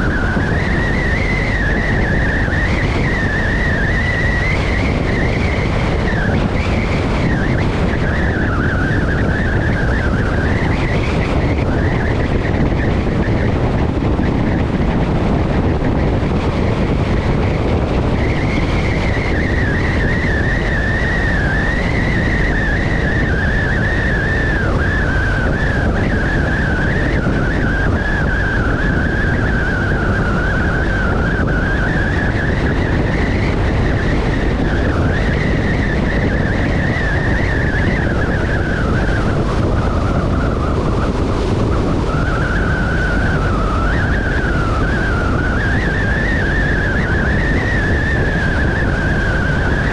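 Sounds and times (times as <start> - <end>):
motorcycle high whine: 0.0 - 49.9
wind and road noise: 0.0 - 49.9.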